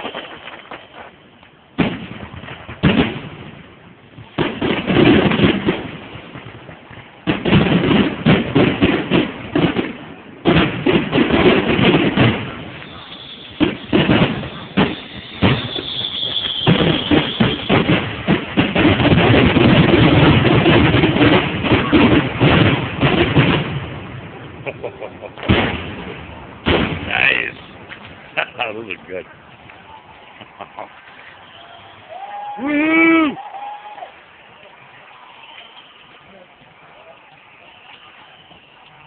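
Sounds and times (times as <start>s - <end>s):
fireworks booming: 0.0s - 39.0s
fireworks crackling: 0.0s - 39.0s.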